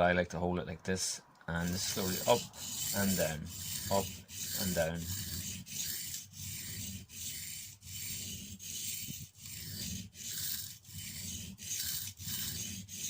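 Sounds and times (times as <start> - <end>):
blade scraping on sharpening stone: 1.6 - 13.0.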